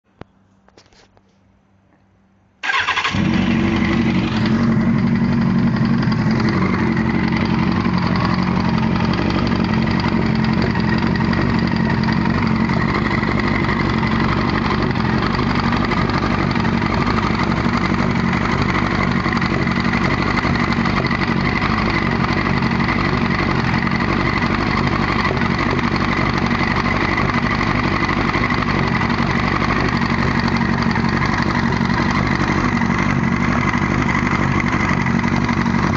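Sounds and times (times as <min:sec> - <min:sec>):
engine knocking: 0:02.6 - 0:35.9
motorcycle engine idling: 0:02.6 - 0:35.9.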